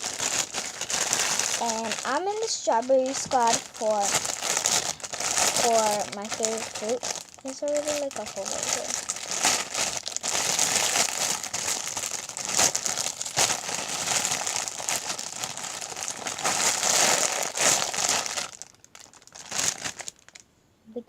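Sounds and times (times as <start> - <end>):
plastic packaging crinkling: 0.0 - 20.4.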